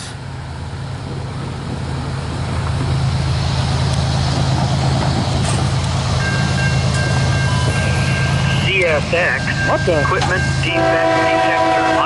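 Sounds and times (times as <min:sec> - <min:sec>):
diesel locomotive drone: 0:00.0 - 0:12.0
train rumbling past: 0:00.0 - 0:12.0.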